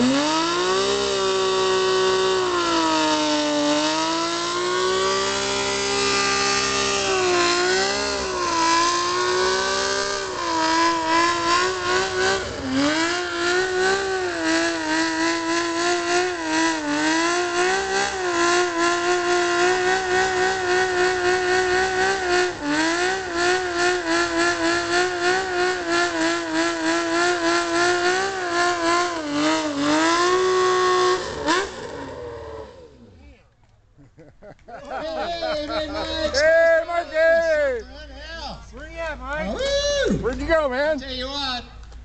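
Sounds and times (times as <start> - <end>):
motorcycle engine revving: 0.0 - 33.4, 35.0 - 42.0.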